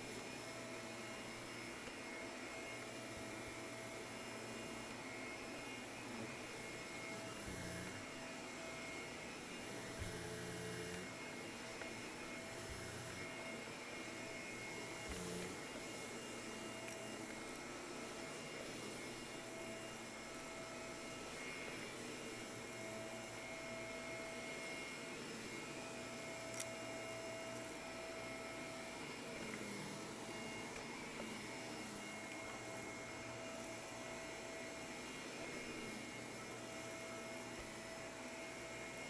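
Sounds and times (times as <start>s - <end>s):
vacuum cleaner running: 0.0s - 39.0s.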